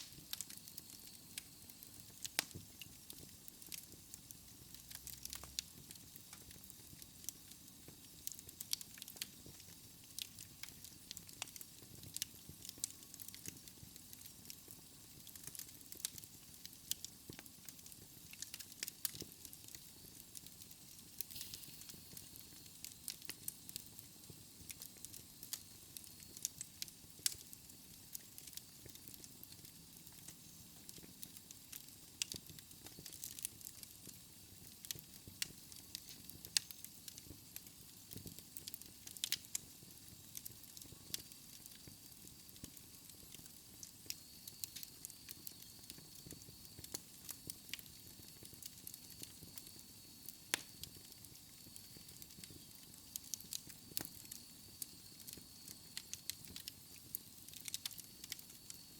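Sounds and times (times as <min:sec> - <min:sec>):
fire crackling and popping: 0:00.0 - 0:58.9
soft steady hiss: 0:00.0 - 0:58.9.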